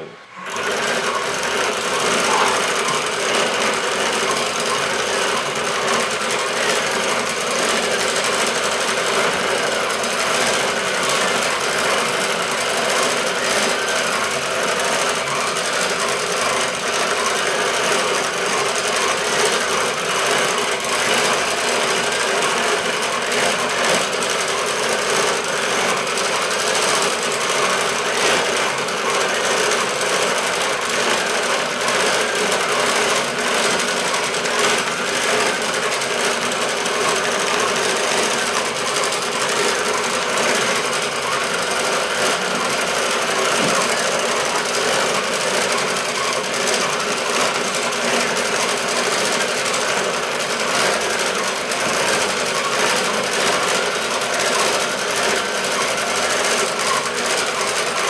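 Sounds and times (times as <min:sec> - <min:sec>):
sewing machine stitching: 0:00.0 - 0:58.0.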